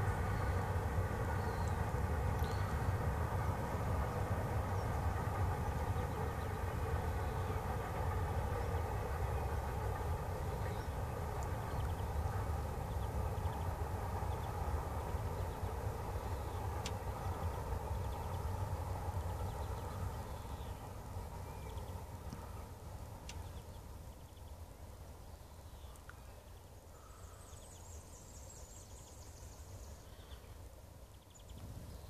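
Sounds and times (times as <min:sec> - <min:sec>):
freight train rumbling over bridge: 0:00.0 - 0:32.0.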